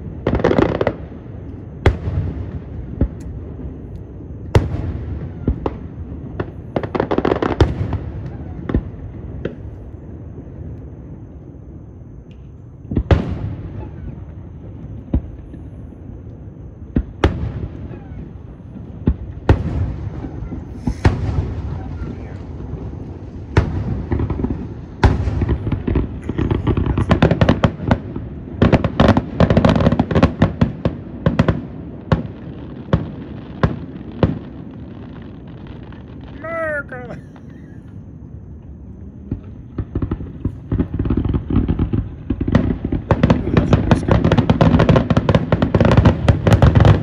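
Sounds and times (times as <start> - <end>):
fireworks booming and crackling: 0.0 - 47.0.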